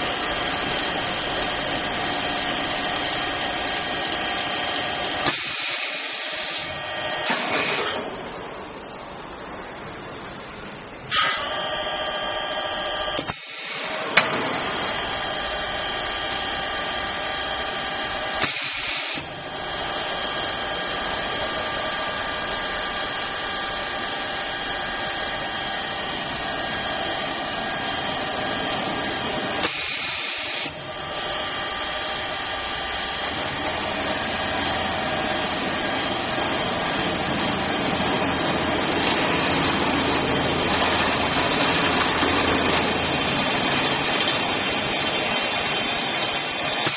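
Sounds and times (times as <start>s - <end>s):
cnc machine whining: 0.0s - 8.0s, 11.1s - 46.9s.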